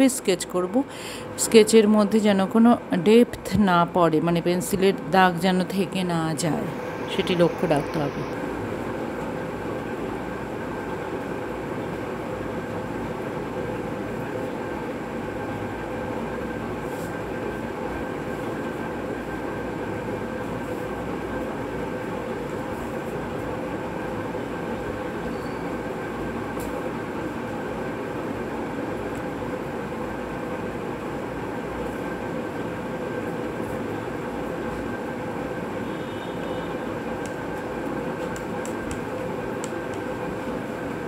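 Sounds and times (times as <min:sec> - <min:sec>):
mechanical hum with tones: 0:00.0 - 0:41.0.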